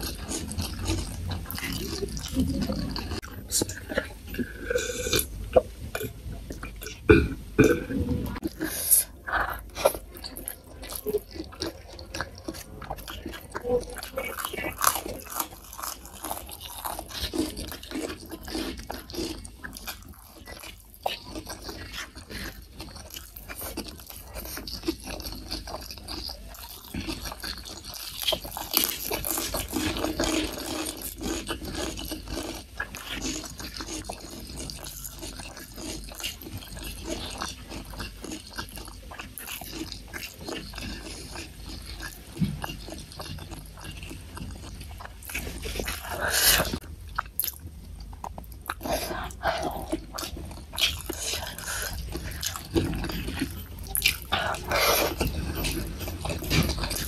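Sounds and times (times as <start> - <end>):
wet chewing with mouth clicks: 0.0 - 57.0.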